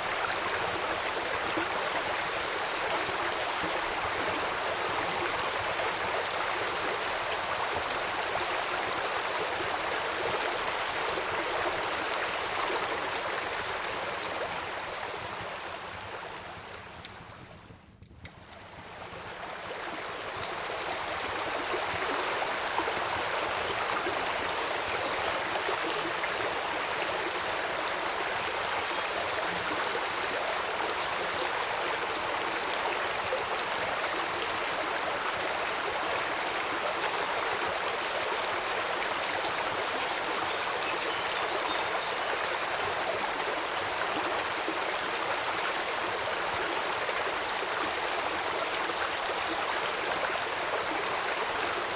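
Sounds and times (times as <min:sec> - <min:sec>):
flowing stream rushing: 0:00.0 - 0:16.7, 0:18.8 - 0:51.9.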